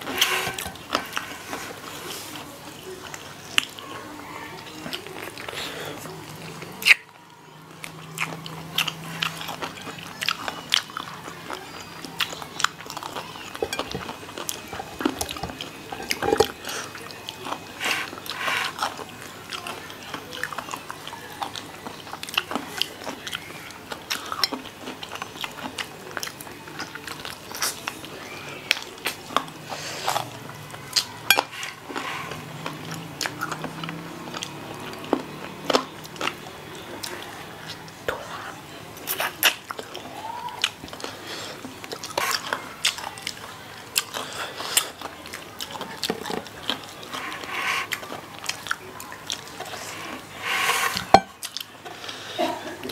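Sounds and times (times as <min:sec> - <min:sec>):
people chewing crunchy food: 0:00.0 - 0:52.9.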